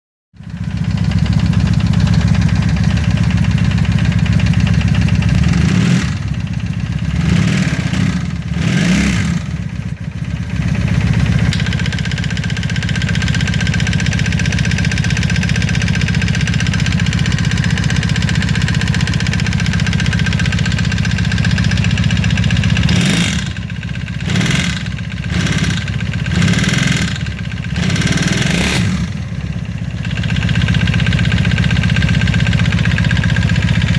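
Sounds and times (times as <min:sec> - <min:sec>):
motorcycle engine knocking: 0:00.4 - 0:33.9.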